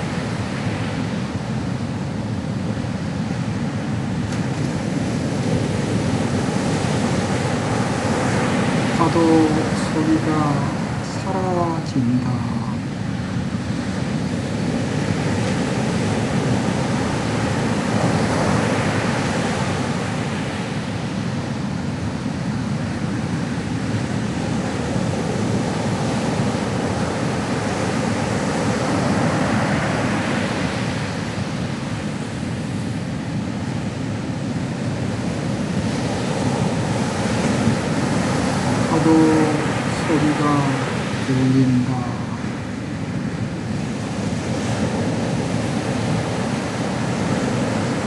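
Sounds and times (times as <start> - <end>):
ocean waves rushing: 0.0 - 48.0.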